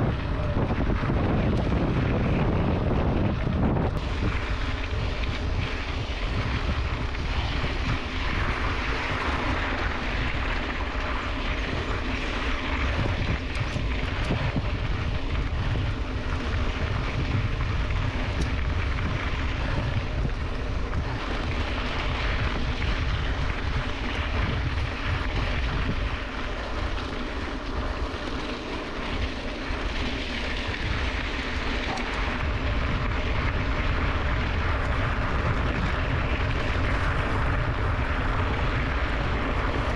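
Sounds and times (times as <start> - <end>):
bike tyres rumbling on dirt: 0.0 - 39.9
wind rush on microphone: 0.0 - 39.9.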